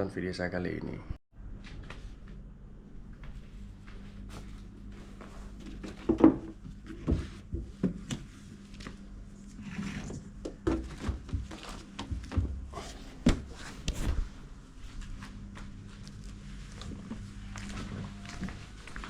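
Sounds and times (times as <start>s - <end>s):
steady low hum: 0.8s - 19.0s.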